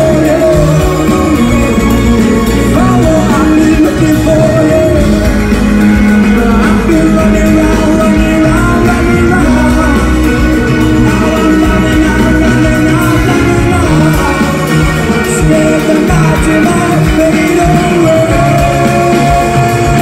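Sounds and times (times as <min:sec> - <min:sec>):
live rock band playing: 0:00.0 - 0:20.0
male lead vocal: 0:00.0 - 0:20.0.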